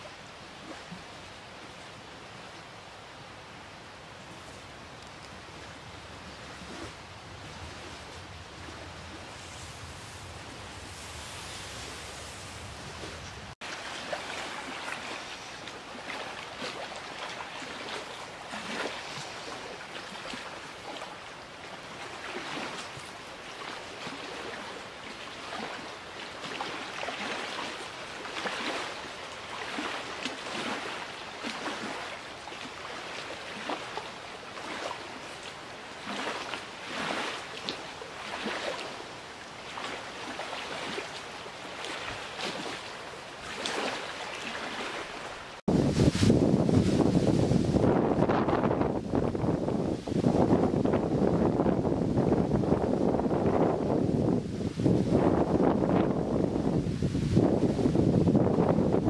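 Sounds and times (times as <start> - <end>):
rush of water and wind: 0.0 - 59.0
waves lapping at shore: 0.0 - 59.0.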